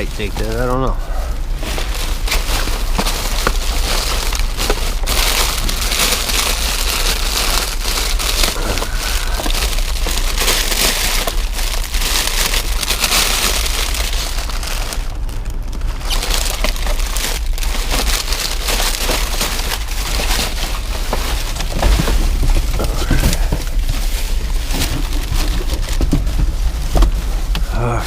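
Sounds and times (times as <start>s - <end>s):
trash rustling and crinkling: 0.0s - 28.0s.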